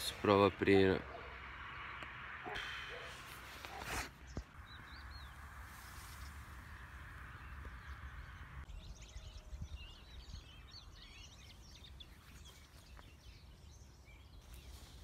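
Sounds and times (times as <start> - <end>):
low wind rumble: 0.0 - 14.7
birds twittering: 0.0 - 15.0.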